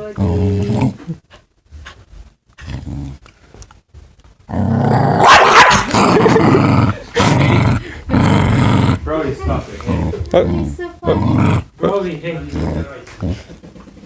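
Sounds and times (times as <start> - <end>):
dog growling: 0.0 - 1.2, 2.6 - 3.3, 4.5 - 13.8.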